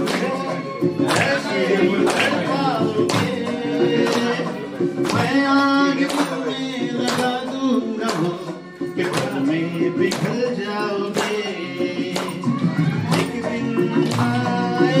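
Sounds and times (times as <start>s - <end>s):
backing track with steady beat: 0.0s - 15.0s
man singing into a microphone: 0.0s - 15.0s.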